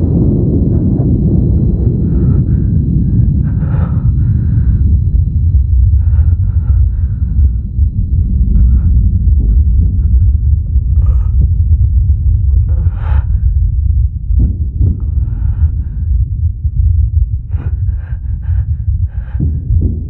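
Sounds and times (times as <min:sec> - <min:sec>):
steady low rumble: 0:00.0 - 0:20.0
man breathing heavily with gasps: 0:00.1 - 0:20.0.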